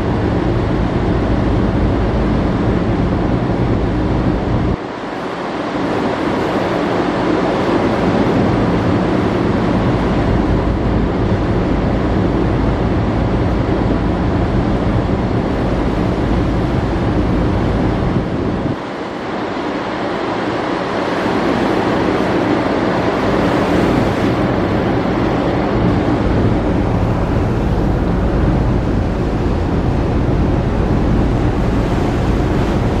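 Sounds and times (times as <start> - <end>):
sea wash: 0.0 - 33.0
ship engine hum: 0.0 - 33.0
wind buffeting microphone: 0.0 - 33.0.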